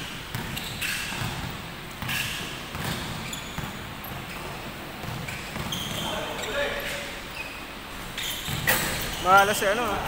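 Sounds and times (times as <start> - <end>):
basketball bouncing on wooden court: 0.0 - 6.5, 7.9 - 10.0.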